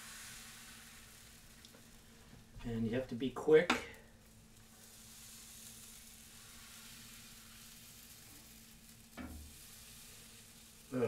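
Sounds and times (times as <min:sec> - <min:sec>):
crepe batter sizzling: 0:00.0 - 0:11.0.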